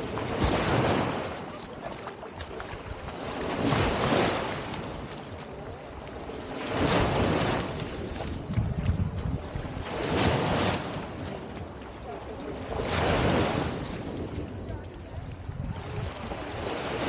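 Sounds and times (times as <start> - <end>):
small waves breaking on shore: 0.0 - 17.0
wind buffeting microphone: 0.0 - 17.0.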